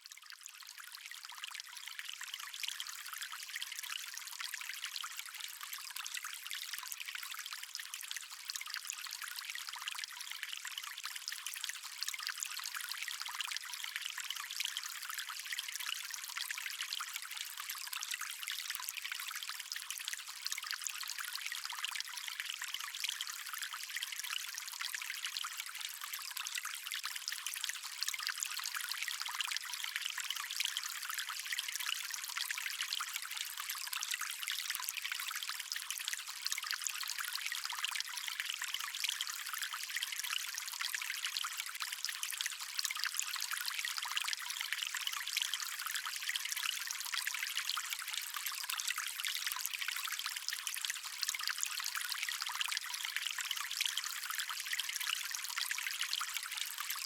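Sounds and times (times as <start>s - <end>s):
stream trickling: 0.0s - 57.0s.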